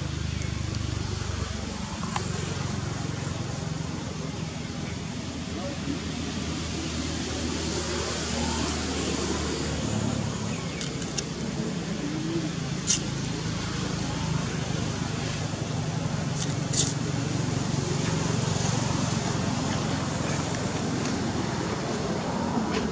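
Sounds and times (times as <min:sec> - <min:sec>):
outdoor background rumble: 0:00.0 - 0:22.9.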